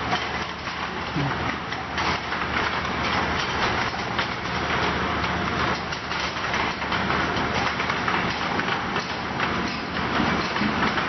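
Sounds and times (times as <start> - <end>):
rapid irregular clattering: 0.0 - 11.0.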